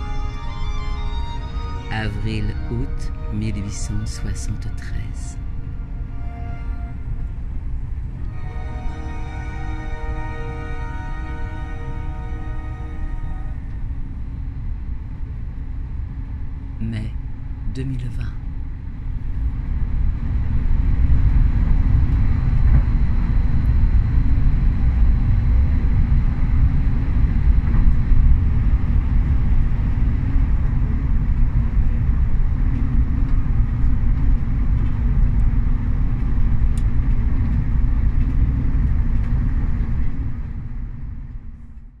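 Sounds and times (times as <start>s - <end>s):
train rumbling at speed: 0.0s - 41.8s
faint high whine: 0.0s - 42.0s.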